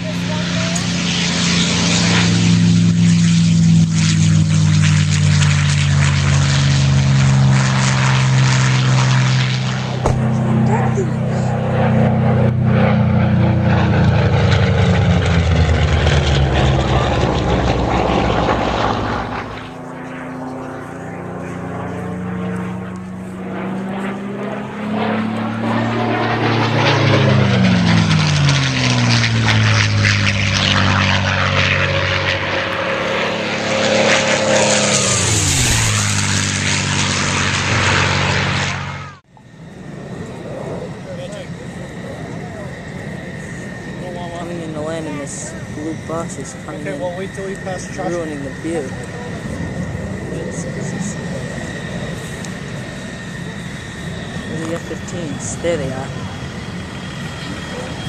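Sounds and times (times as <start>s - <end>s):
propeller aircraft engines: 0.0s - 58.0s.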